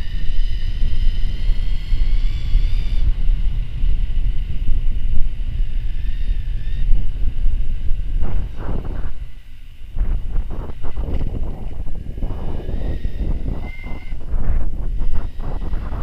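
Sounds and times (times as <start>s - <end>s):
electric motor whine: 0.0s - 16.0s
wind buffeting microphone: 0.0s - 16.0s.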